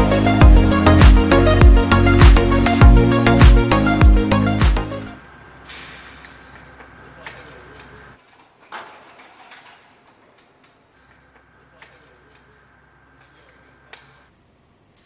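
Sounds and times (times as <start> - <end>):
equipment hum: 0.0 - 15.0.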